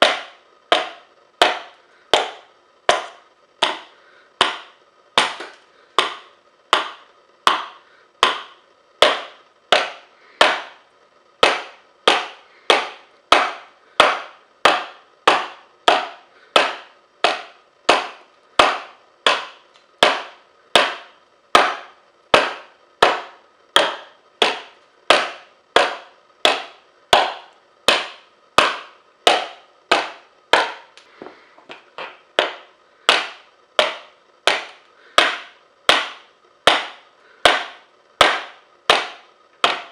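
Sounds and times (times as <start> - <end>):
edge tool chopping wood: 0.0 - 10.8, 11.4 - 39.9.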